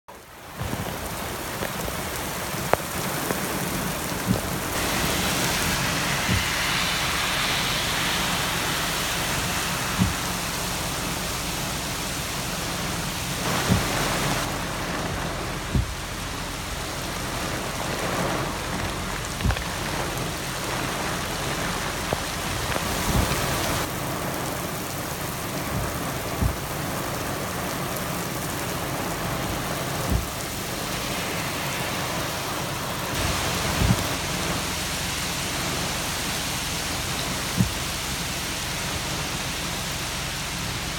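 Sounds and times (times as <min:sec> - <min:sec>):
heavy rain on pavement: 0:00.1 - 0:40.9.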